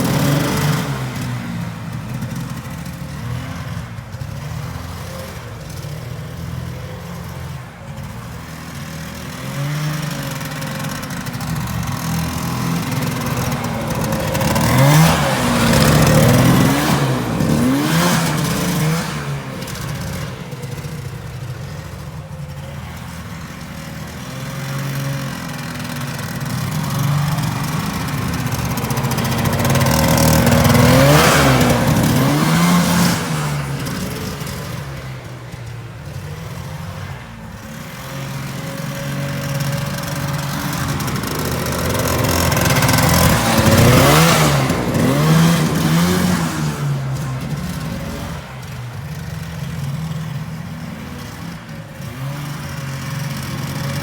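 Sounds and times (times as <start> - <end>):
two-stroke snowmobile engine revving: 0.0 - 54.0.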